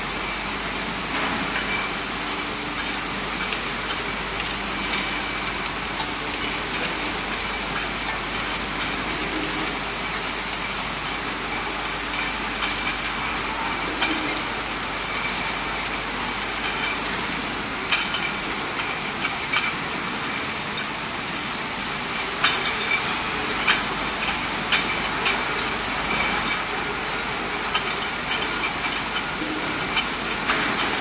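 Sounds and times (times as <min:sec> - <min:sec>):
glass bottles clinking: 0:01.1 - 0:20.0, 0:22.2 - 0:31.0.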